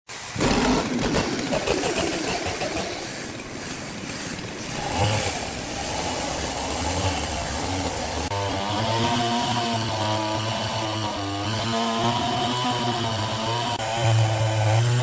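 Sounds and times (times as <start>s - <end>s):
sawmill machinery drone: 0.1s - 15.0s.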